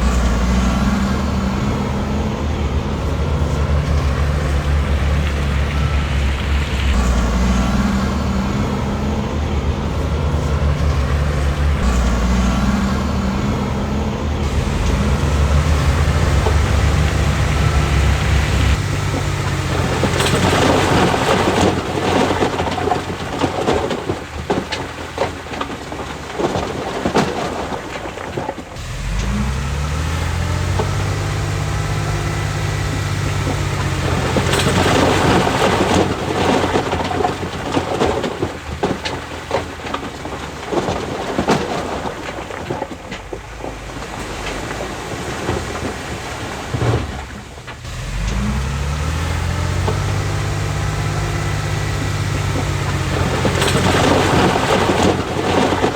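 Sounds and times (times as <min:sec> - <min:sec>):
diesel engine revving: 0:00.0 - 0:55.9
loose rock rumbling and knocking: 0:00.0 - 0:55.9.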